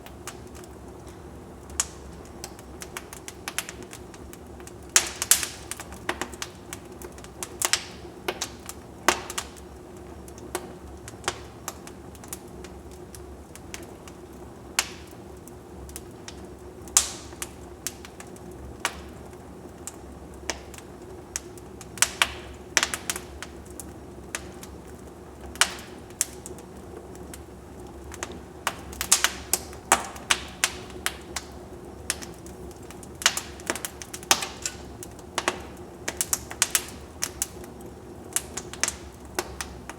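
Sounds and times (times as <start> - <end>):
fire pops and snaps: 0.0 - 39.9
low burning fire: 0.0 - 39.9.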